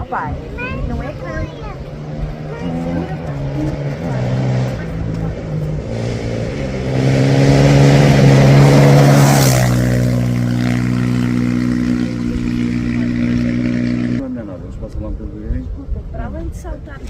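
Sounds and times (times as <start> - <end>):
car engine under load: 0.3 - 14.2.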